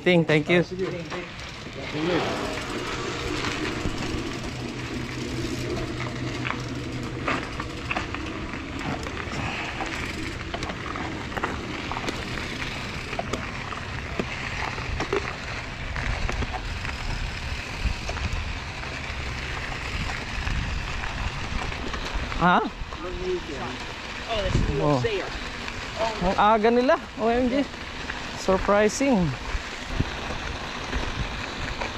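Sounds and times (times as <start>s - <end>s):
bike tyres crunching on gravel: 0.0s - 31.9s
low rumble: 0.6s - 28.7s.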